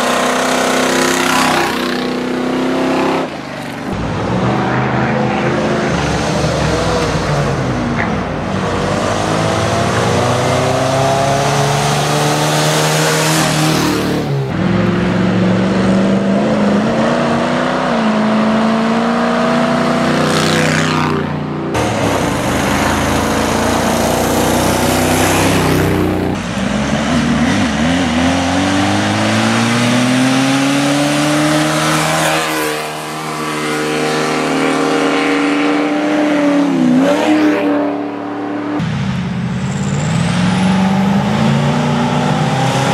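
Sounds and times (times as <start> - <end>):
race vehicle engines revving past: 0.0 - 39.1, 39.7 - 42.9.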